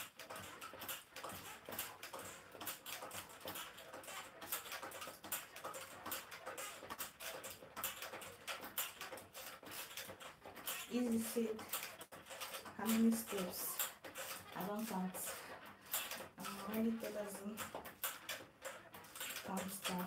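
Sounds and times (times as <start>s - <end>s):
stepper creaking and clicking: 0.0s - 20.0s.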